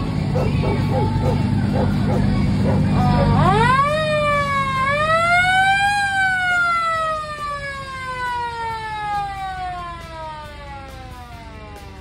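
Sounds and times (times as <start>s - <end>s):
siren winding down: 0.6s - 12.0s.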